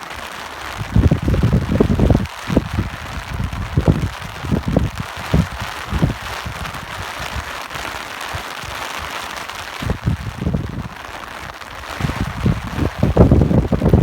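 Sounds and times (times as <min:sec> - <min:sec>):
steady rain hissing: 0:00.0 - 0:14.0
wind gusts buffeting: 0:00.7 - 0:07.9, 0:09.7 - 0:14.0.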